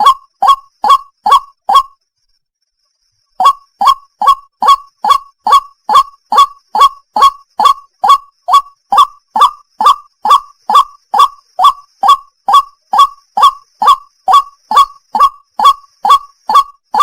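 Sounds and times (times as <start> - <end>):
waterhen calling kwak notes: 0.0 - 2.0, 3.3 - 17.0.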